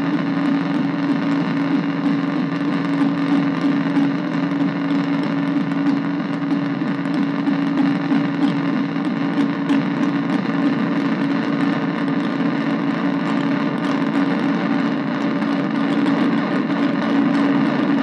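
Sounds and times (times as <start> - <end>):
buzzing synthesizer drone: 0.0 - 18.0.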